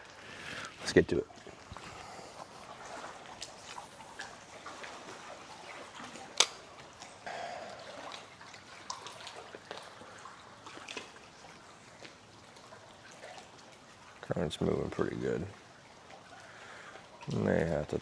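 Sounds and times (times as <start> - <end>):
water lapping along shore: 0.0 - 18.0.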